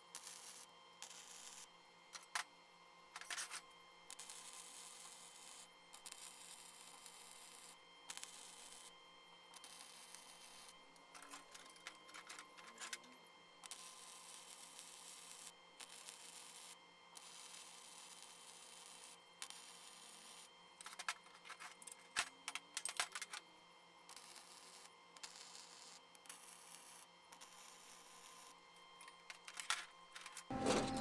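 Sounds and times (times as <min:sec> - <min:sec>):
welding arc crackling and hissing: 0:00.1 - 0:02.4, 0:03.2 - 0:08.9, 0:09.6 - 0:23.3, 0:24.1 - 0:31.0.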